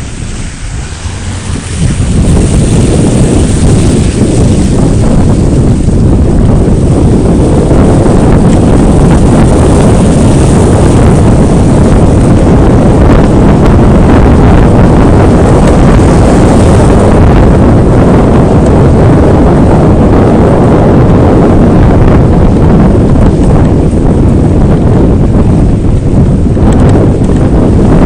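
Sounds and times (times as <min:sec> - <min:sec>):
off-road vehicle rumbling: 0:00.0 - 0:28.0
wind buffeting microphone: 0:00.0 - 0:28.0.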